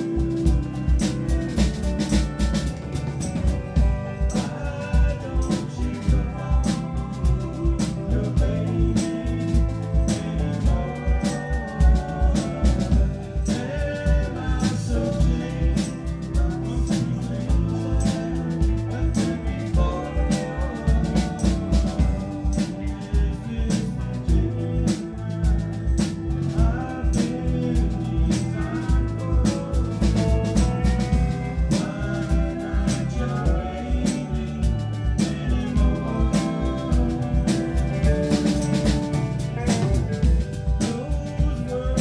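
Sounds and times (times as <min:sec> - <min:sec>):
country rock band playing: 0:00.0 - 0:42.0
drum kit steady beat: 0:00.0 - 0:42.0
electric guitars: 0:00.0 - 0:42.0.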